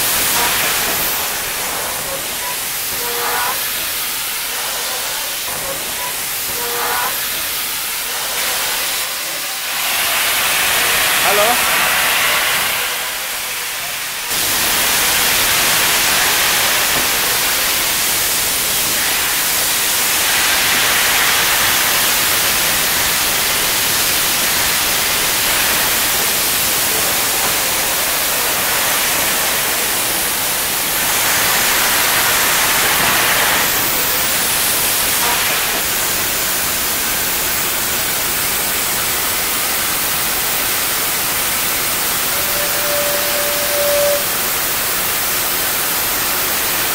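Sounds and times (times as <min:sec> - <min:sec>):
steam locomotive venting steam: 0:00.0 - 0:46.9.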